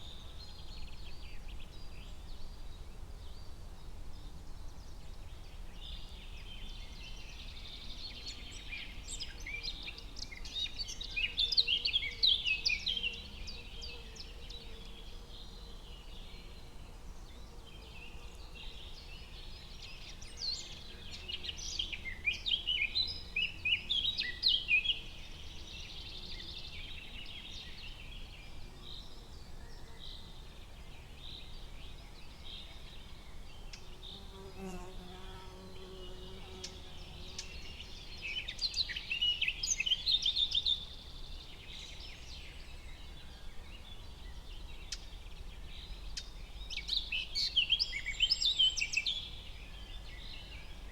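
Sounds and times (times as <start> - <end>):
faint background hiss: 0.0 - 50.9
songbirds singing: 0.0 - 50.9.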